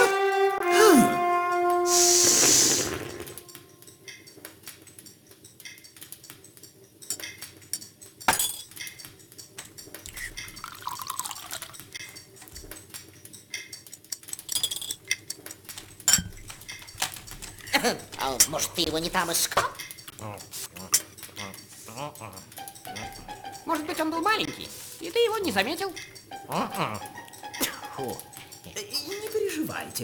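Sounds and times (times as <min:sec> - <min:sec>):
dishes and cutlery clinking: 0:03.3 - 0:30.0.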